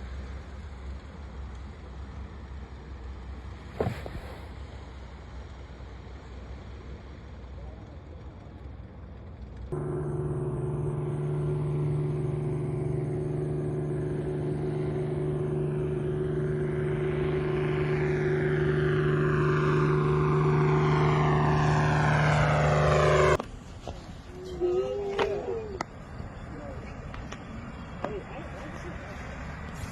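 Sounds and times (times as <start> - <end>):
aircraft engine approaching: 0.0 - 29.9.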